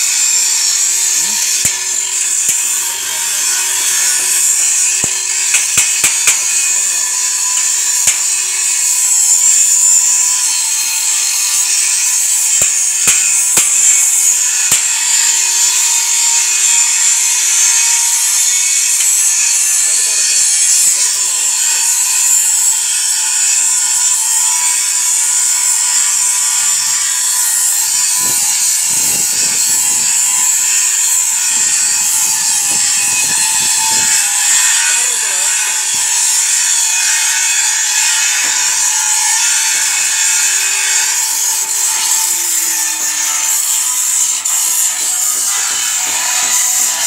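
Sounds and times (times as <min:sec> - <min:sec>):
high-pitched metalworking hiss: 0:00.0 - 0:47.0.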